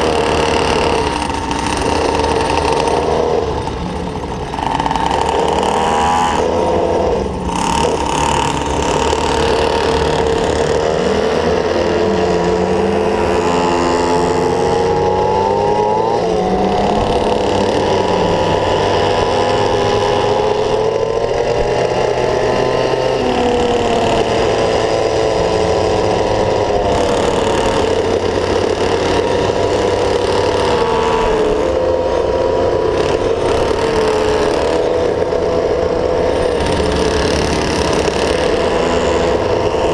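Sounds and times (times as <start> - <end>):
small two-stroke engine running: 0.0 - 39.9.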